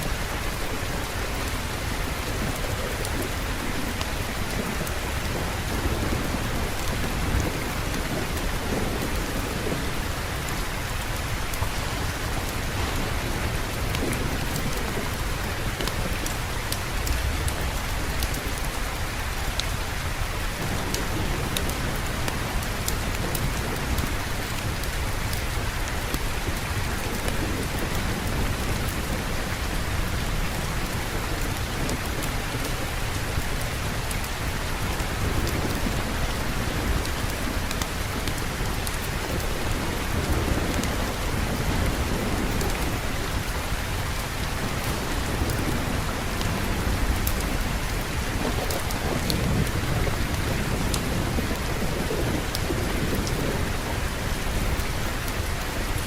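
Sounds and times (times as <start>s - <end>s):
low rumble of distant thunder: 0.0s - 56.0s
rain drops ticking: 0.0s - 56.0s
steady rainfall: 0.0s - 56.0s.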